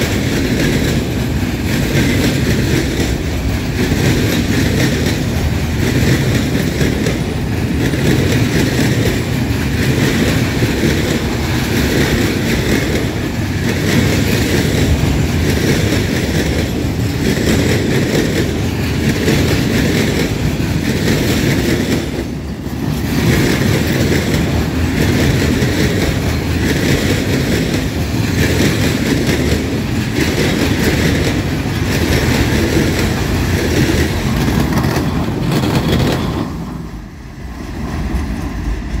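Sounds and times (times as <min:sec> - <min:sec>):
freight train wheels rumbling on rails: 0:00.0 - 0:39.0.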